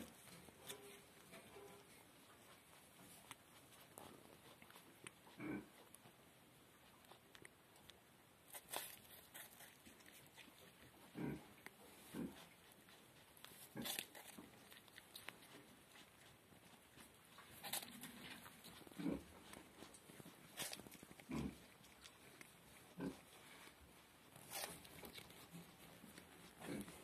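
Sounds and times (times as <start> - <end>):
animal crunching an apple: 0.0 - 27.0
quiet chewing: 0.0 - 27.0.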